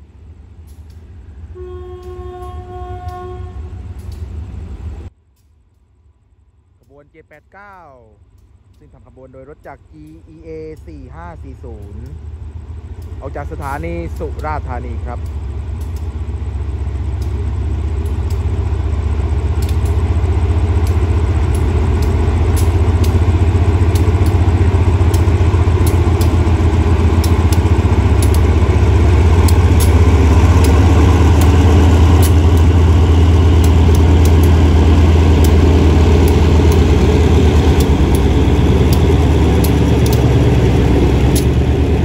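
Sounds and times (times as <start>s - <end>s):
locomotive engine humming: 0.0s - 42.0s.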